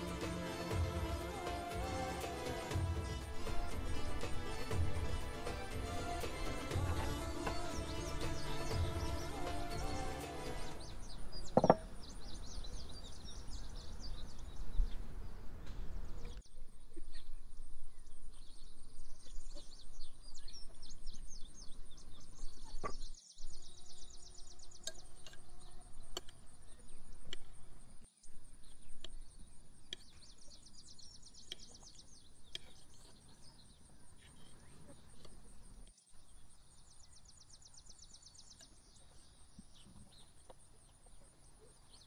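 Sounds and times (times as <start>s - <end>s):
birds chirping and singing: 0.0s - 27.6s, 28.6s - 42.0s.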